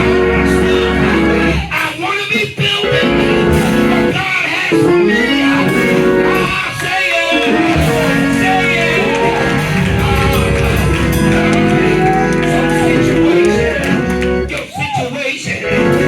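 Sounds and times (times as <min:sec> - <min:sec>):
gospel music with guitar: 0:00.0 - 0:16.0
people singing: 0:00.0 - 0:16.0.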